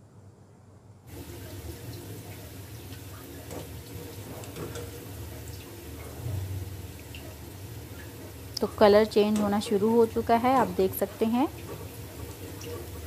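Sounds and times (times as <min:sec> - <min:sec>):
food deep-frying in oil: 0:01.1 - 0:13.0.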